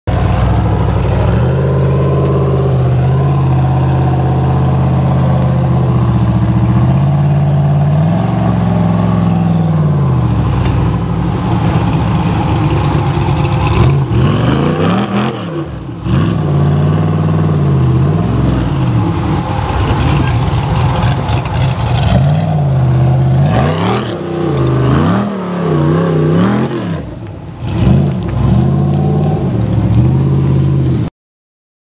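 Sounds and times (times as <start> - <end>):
buggy engine revving under load: 0.1 - 30.8.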